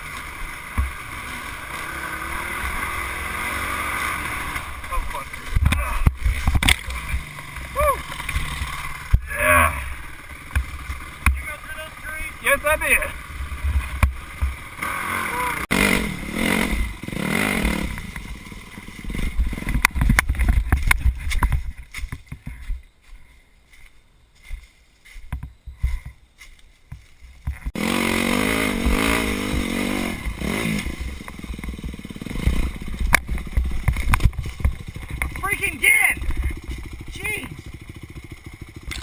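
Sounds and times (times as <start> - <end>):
dirt bike engine revving: 0.0 - 21.6, 27.6 - 39.0.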